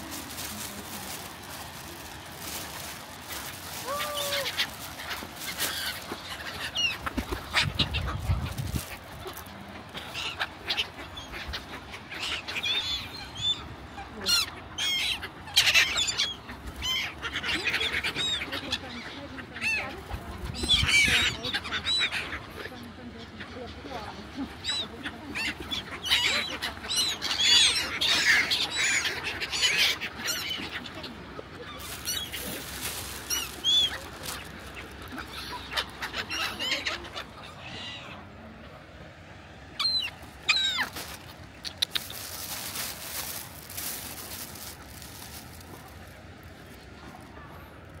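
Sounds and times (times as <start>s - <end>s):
gulls squawking: 0.0s - 38.3s, 39.8s - 45.9s.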